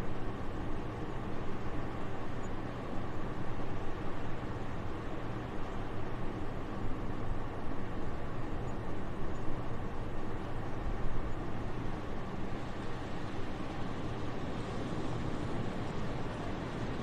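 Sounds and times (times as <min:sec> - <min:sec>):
soft wind hiss: 0:00.0 - 0:17.0.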